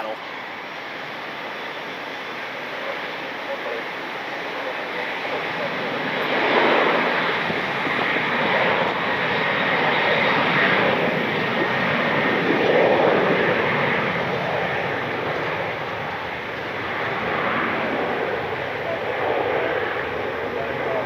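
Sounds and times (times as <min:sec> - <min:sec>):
jet engine rush: 0:00.0 - 0:21.0.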